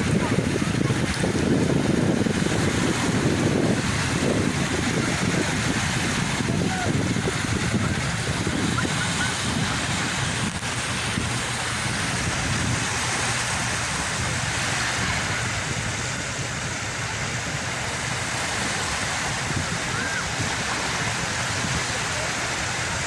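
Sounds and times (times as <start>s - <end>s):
sea surf rushing: 0.0s - 23.0s.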